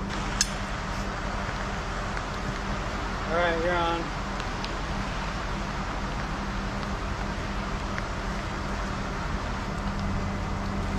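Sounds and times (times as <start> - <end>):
heavy equipment engine humming: 0.0 - 10.9.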